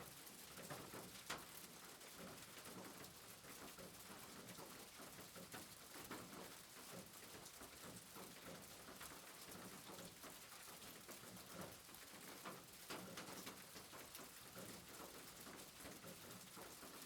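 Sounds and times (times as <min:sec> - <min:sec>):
faint steady rain: 0:00.0 - 0:17.0.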